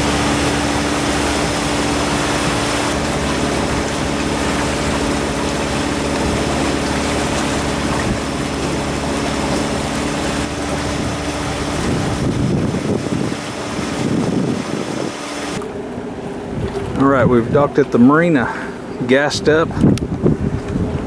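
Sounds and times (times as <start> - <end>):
boat engine humming: 0.0 - 21.0
wind and water rushing: 0.0 - 21.0.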